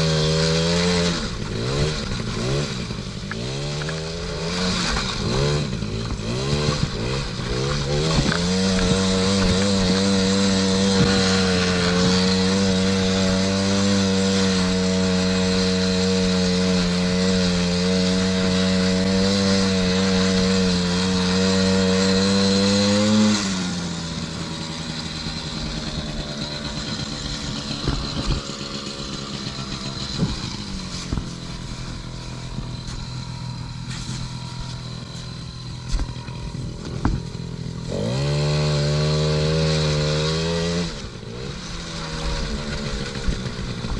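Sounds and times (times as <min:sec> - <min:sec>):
small two-stroke engine revving: 0:00.0 - 0:43.9.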